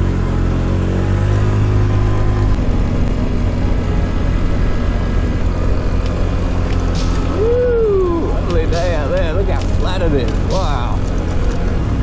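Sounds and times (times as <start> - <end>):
scooter engine pulling away: 0.0 - 12.0.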